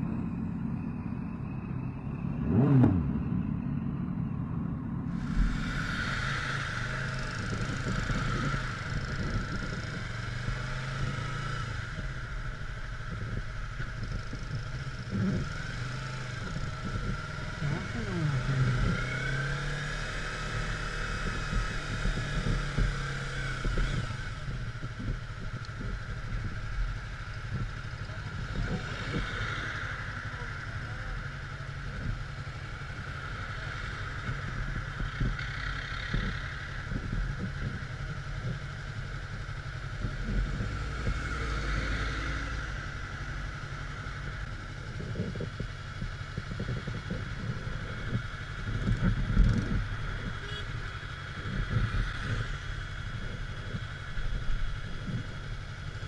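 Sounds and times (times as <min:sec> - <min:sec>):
motorcycle engine running: 0:00.0 - 0:56.0
road and wind hiss: 0:00.0 - 0:56.0.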